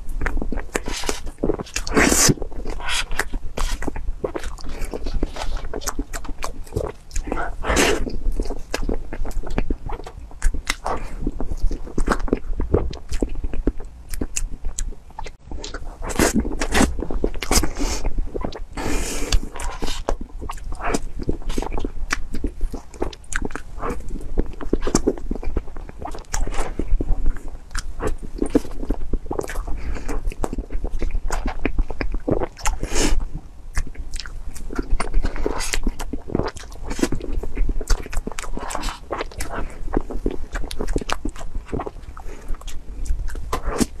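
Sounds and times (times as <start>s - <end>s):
wet mouth smacks and chewing: 0.2s - 18.7s, 19.3s - 33.0s, 33.7s - 44.0s.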